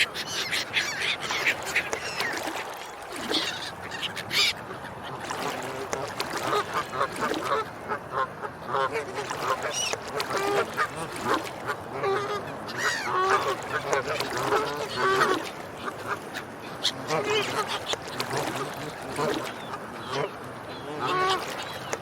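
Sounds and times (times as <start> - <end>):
swans and ducks honking and quacking: 0.0 - 22.0.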